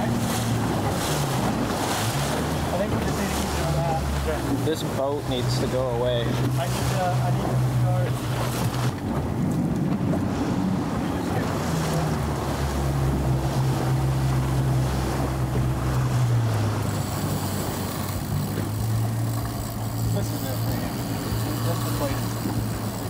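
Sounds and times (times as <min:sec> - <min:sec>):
boat engine running: 0:00.0 - 0:23.0
water rushing past hull: 0:00.0 - 0:23.0
wind buffeting microphone: 0:00.0 - 0:23.0.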